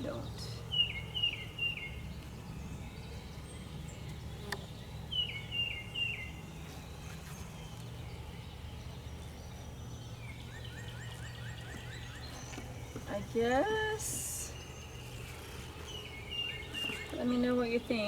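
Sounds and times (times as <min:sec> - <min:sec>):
songbird chirping: 0:00.0 - 0:18.0
steady low hum: 0:00.0 - 0:18.0.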